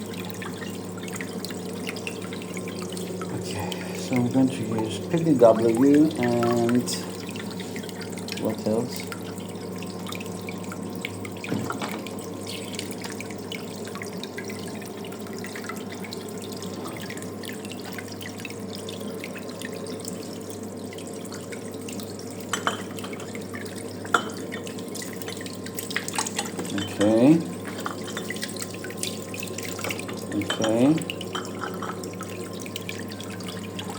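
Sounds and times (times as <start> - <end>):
electric pump humming: 0.0 - 33.9.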